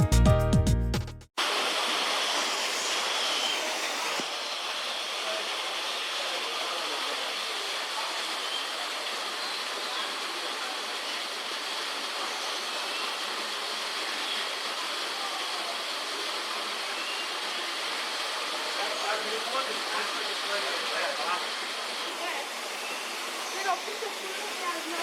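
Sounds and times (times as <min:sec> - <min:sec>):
rush of falling water: 0:01.4 - 0:25.0.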